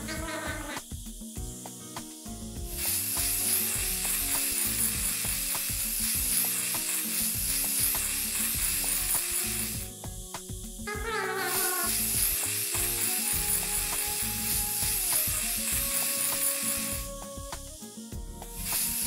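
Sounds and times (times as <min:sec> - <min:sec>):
light background music: 0:00.0 - 0:19.0
steady hiss: 0:00.0 - 0:19.0.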